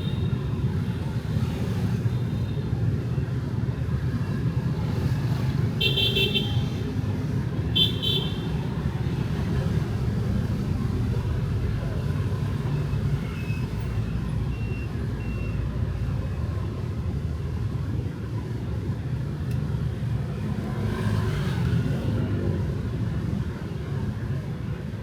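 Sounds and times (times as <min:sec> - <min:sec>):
motorbike and car engines rumbling: 0:00.0 - 0:25.0.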